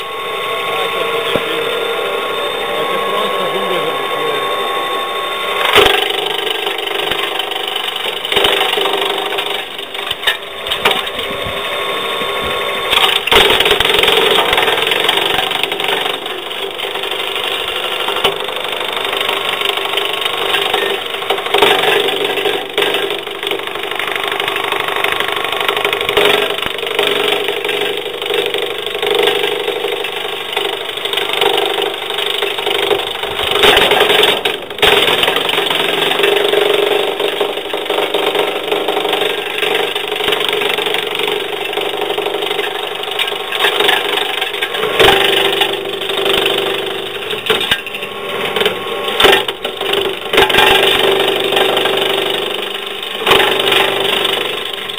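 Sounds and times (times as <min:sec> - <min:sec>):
branch chipper running: 0:00.0 - 0:54.9
wood cracking and splintering: 0:05.6 - 0:11.6, 0:12.9 - 0:54.9.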